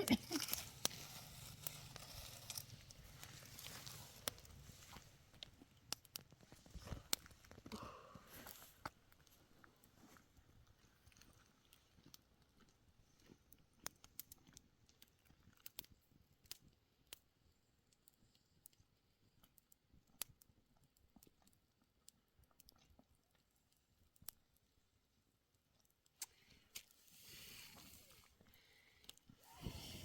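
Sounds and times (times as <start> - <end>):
faint sharp clicks and ticks: 0.2 - 27.1, 27.7 - 29.4.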